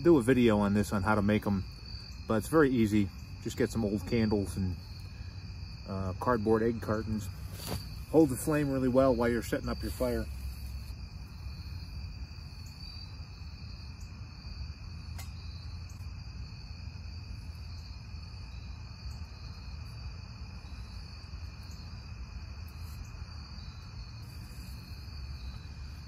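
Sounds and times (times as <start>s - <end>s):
crickets and insects droning: 0.0s - 26.0s.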